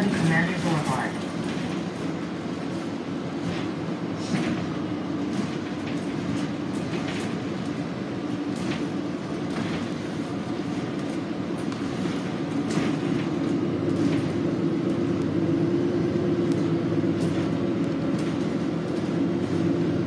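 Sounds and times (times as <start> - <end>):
bus drivetrain and road drone: 0.0 - 20.0
bus fittings rattling: 1.2 - 20.0.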